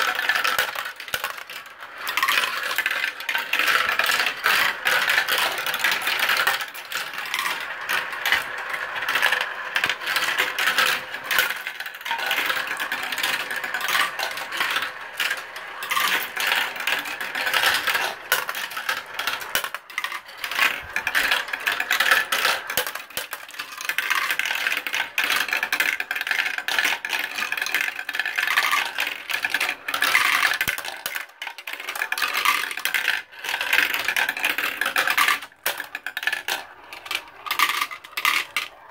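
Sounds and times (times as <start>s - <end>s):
marbles clicking on plastic: 0.0s - 38.9s
marbles rattling through plastic run: 0.0s - 38.9s.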